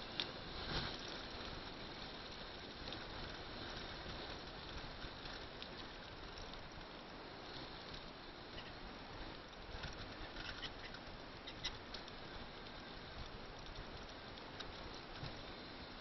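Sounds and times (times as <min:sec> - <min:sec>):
light rattles and ticks: 0:00.0 - 0:16.0
vehicle road noise on dirt road: 0:00.0 - 0:16.0.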